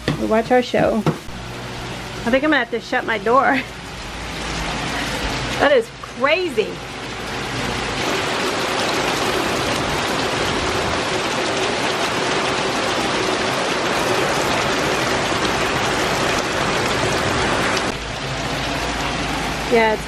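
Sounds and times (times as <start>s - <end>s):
heavy rain pouring: 1.2s - 20.0s.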